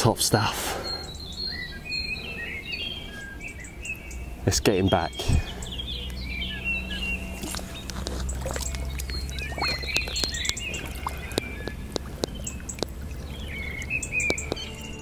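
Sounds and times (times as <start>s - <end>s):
small birds chirping: 0.0s - 15.0s
low steady hum: 0.7s - 15.0s.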